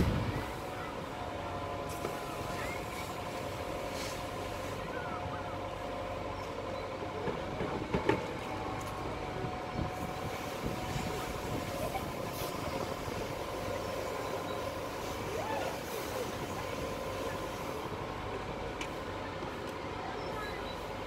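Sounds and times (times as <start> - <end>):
fire engine pump running: 0.0 - 21.0.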